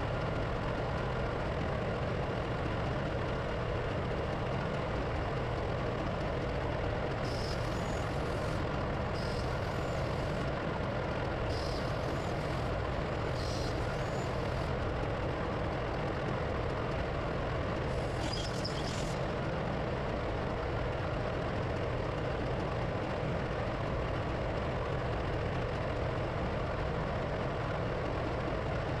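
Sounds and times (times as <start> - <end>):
diesel generator droning: 0.0 - 29.0.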